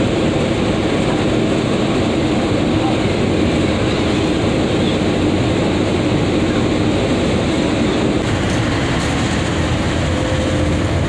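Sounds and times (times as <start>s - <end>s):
ferry engines droning: 0.0s - 11.0s
wind buffeting microphone: 0.0s - 11.0s.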